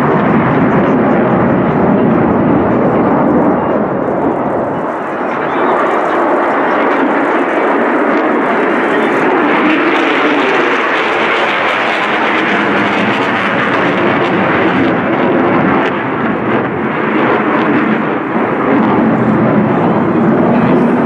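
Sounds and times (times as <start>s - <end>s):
jet engine roar with afterburner: 0.0s - 21.0s.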